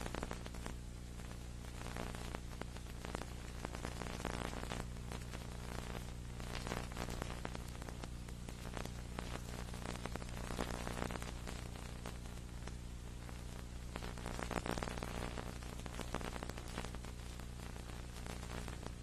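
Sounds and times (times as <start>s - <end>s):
crackling static and hiss: 0.0s - 19.0s
electrical hum: 0.0s - 19.0s.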